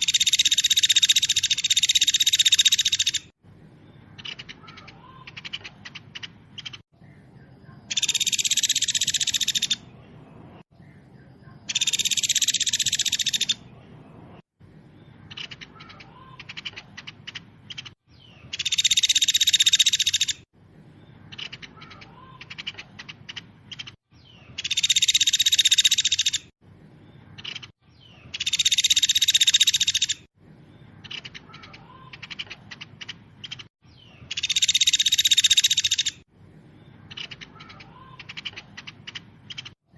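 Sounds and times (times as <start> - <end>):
songbird fast dense trill: 0.0 - 13.8, 14.9 - 20.4, 21.0 - 39.8.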